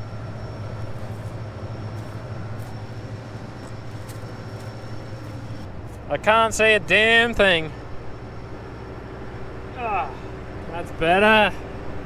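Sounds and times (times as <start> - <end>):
combine harvester engine drone: 0.0 - 12.0
faint high whine: 0.0 - 12.0.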